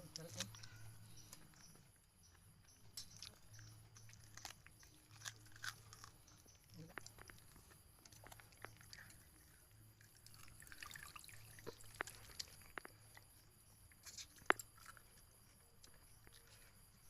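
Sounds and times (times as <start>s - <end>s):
wet chewing: 0.1s - 17.0s.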